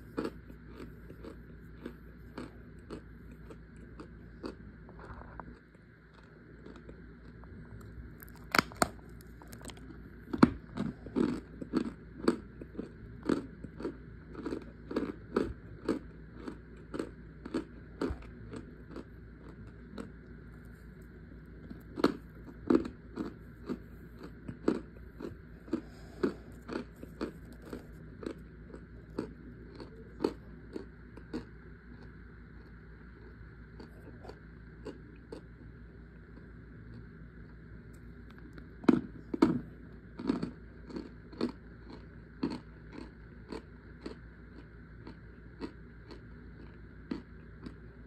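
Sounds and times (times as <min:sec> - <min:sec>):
crunchy chewing: 0:00.0 - 0:48.0.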